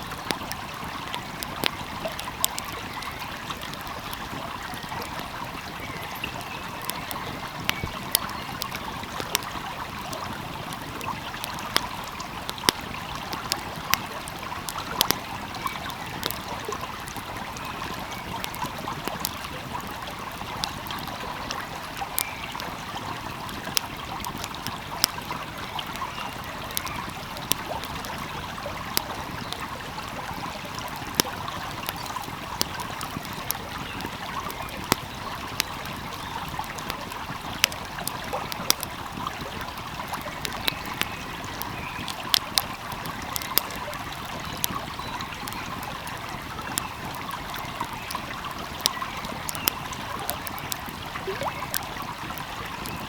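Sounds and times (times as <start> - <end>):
flowing stream: 0.0 - 53.0
wood fire crackling and popping: 0.0 - 53.0.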